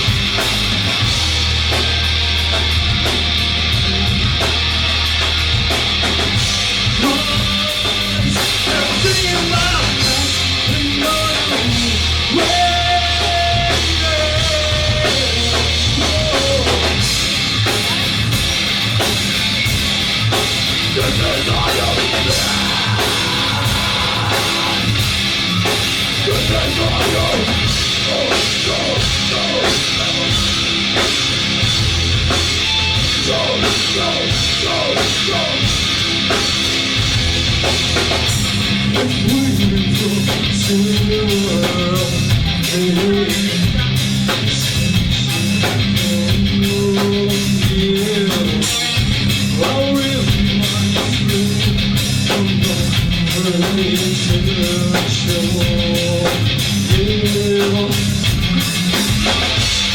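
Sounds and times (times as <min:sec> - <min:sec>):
busy drum kit: 0:00.0 - 0:59.9
electric guitar: 0:00.0 - 0:59.9
live rock band playing: 0:00.0 - 0:59.9.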